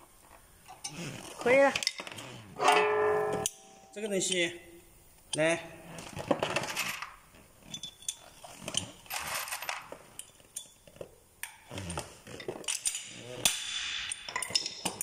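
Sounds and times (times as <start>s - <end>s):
metal parts and tools clinking: 0.7s - 4.5s, 5.3s - 11.6s, 12.3s - 15.0s.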